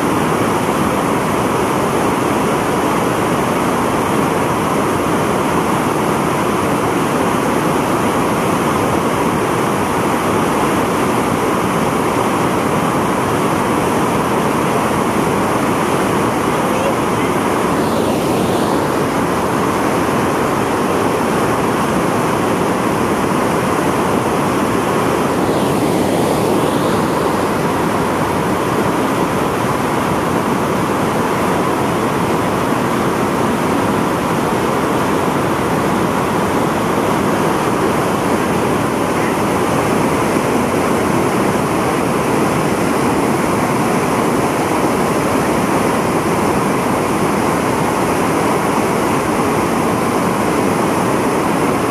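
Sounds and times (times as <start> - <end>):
waterfall roaring: 0.0 - 51.9.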